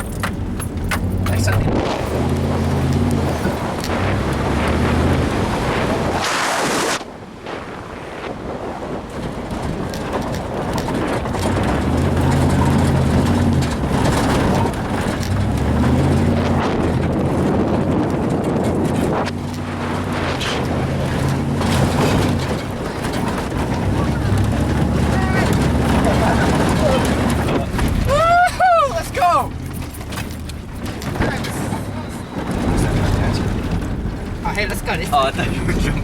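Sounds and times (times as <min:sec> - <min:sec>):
truck engine revving: 0:00.0 - 0:07.0, 0:10.5 - 0:36.0
wind buffeting microphone: 0:00.0 - 0:36.0.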